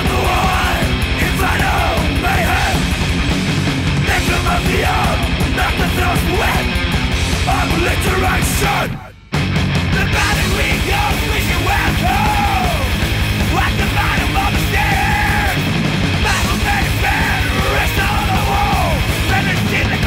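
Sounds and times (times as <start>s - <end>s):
distorted guitars: 0.0s - 20.0s
rapid bass drum: 0.0s - 20.0s
yelled vocals: 0.0s - 20.0s.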